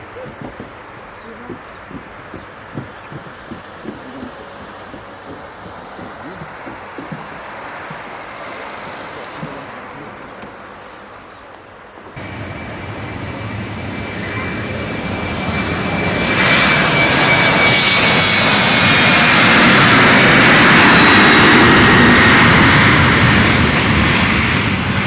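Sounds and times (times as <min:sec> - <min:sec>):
airliner engines passing: 0:00.0 - 0:25.0.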